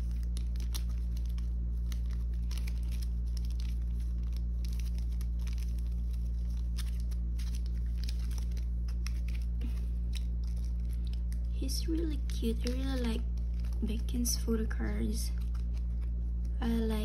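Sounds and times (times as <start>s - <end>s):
plastic crinkling and clicking: 0.0s - 14.1s
steady low hum: 0.0s - 17.0s.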